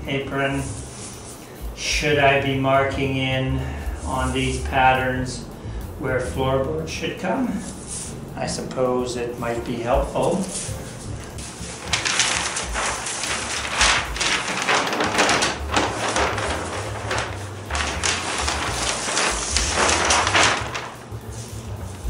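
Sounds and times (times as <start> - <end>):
paper sheet rustling and crinkling: 0.0 - 4.8, 7.5 - 8.2, 9.5 - 22.0.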